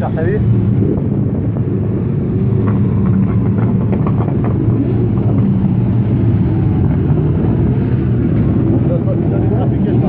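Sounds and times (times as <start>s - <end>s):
motorcycles riding past: 0.0s - 10.0s.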